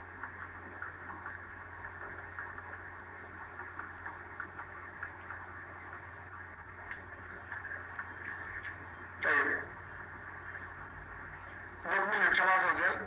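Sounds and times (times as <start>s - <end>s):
low hum: 0.0s - 13.0s
open microphone hiss: 0.0s - 13.0s.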